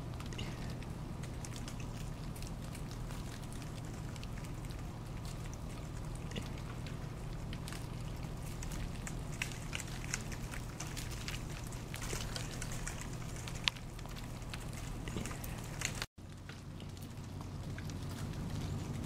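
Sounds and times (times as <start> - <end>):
ice ticking through pine needles: 0.0 - 19.0.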